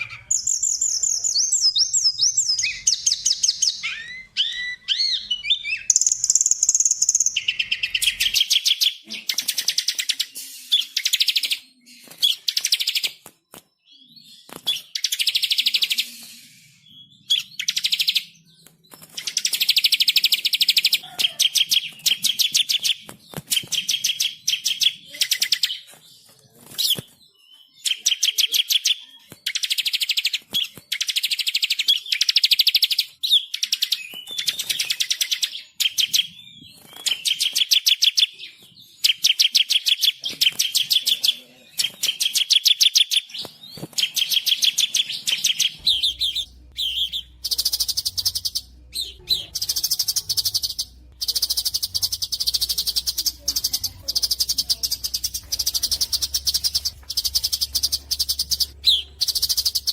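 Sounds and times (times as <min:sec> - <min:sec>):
songbirds chirping in fast trills: 0:00.0 - 0:59.9.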